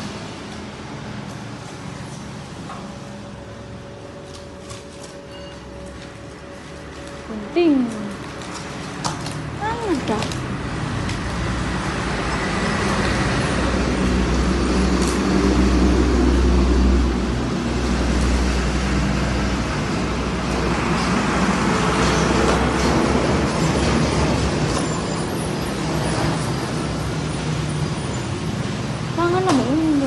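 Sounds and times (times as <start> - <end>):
motor vehicle rumble: 0.0 - 30.0
traffic noise: 0.0 - 30.0.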